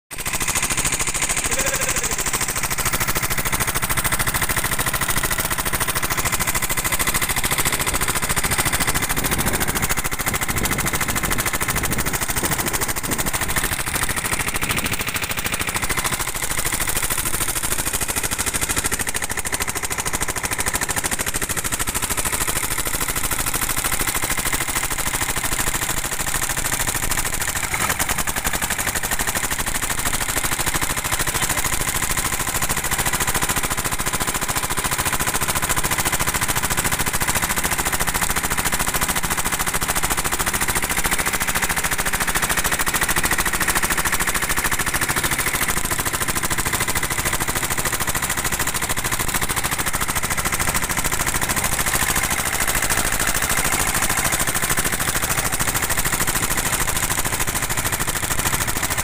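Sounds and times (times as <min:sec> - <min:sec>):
boat engine knocking rattle: 0:00.1 - 0:59.0.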